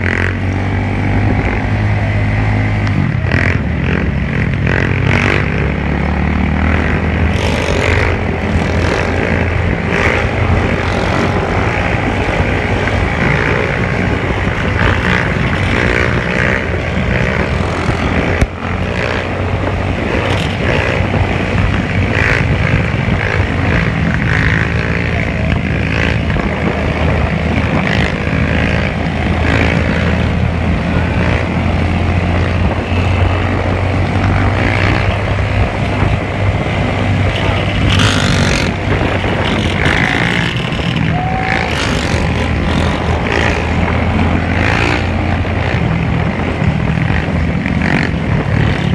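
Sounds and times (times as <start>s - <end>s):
motorcycle engines running: 0.0s - 48.9s.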